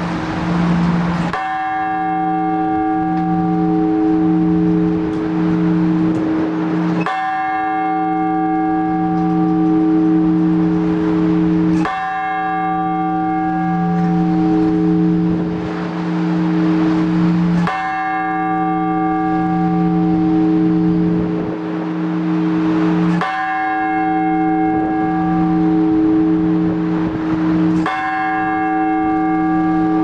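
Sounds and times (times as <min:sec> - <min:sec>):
large church bell strokes: 0:00.0 - 0:30.0.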